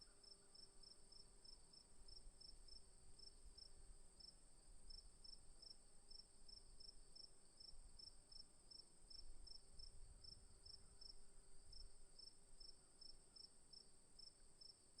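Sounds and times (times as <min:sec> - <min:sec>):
lower cricket chirp: 0:00.0 - 0:15.0.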